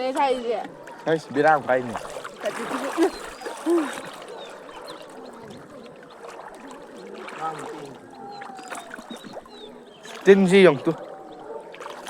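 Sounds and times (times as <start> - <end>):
faint distant voices: 0.0 - 12.0
floodwater washing: 0.0 - 12.0.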